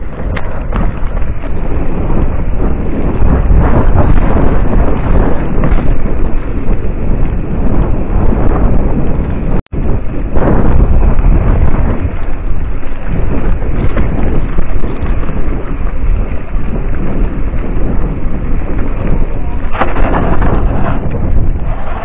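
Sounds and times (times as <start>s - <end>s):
bike rumbling over dirt trail: 0.0s - 22.0s
wind buffeting microphone: 0.0s - 22.0s.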